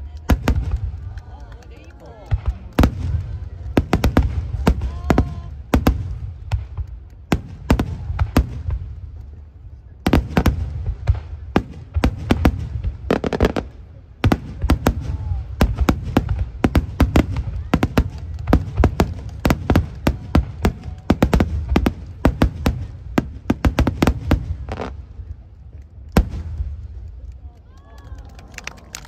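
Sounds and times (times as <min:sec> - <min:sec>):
fireworks bursting with sharp bangs: 0:00.0 - 0:27.5
deep fireworks rumble: 0:00.0 - 0:29.0.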